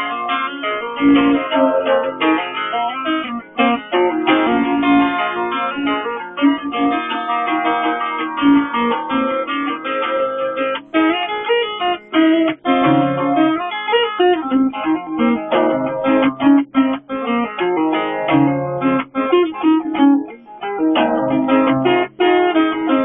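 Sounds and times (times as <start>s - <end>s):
acoustic guitar folk piece: 0.0s - 23.0s.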